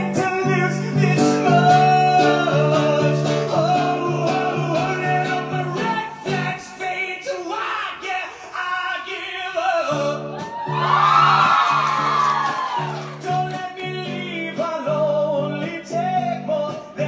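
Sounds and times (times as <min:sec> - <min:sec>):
man singing: 0:00.0 - 0:11.5, 0:13.0 - 0:17.0.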